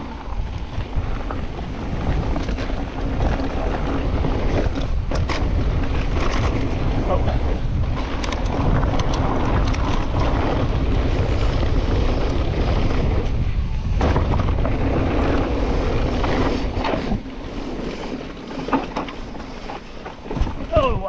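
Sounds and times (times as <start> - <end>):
bike tyres rolling on dirt: 0.0 - 21.0
wind buffeting microphone: 0.0 - 21.0.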